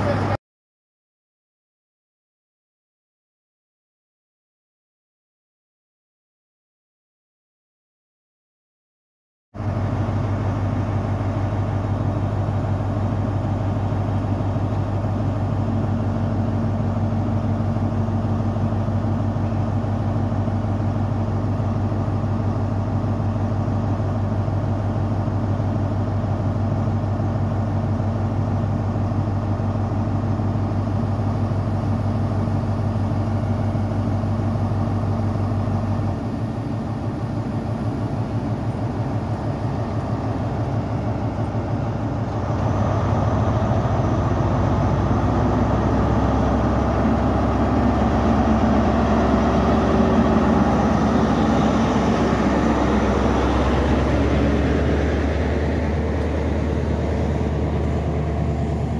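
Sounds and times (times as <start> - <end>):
diesel engine low drone: 0.0 - 0.4, 9.6 - 58.9
steady higher hum: 9.6 - 58.9.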